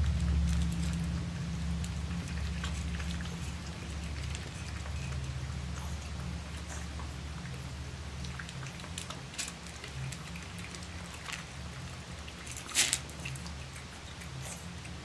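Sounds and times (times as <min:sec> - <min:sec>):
puppies crunching kibble: 0:00.0 - 0:15.0
steady low hum: 0:00.0 - 0:15.0.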